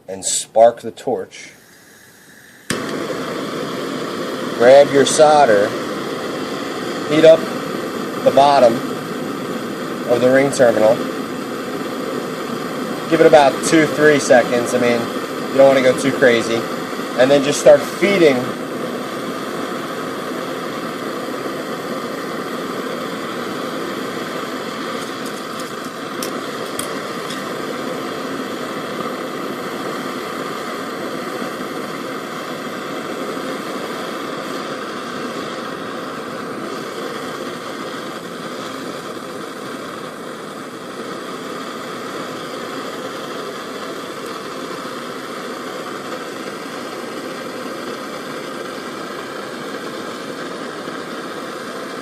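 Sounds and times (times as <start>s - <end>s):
propane torch hissing: 0.0s - 52.0s.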